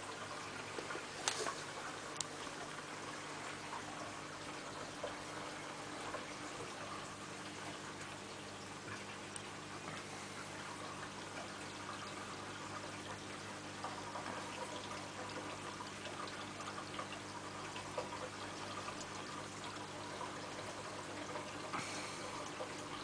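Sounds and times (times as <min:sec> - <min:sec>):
aquarium water trickling: 0:00.0 - 0:23.0
filter pump motor hum: 0:00.0 - 0:23.0.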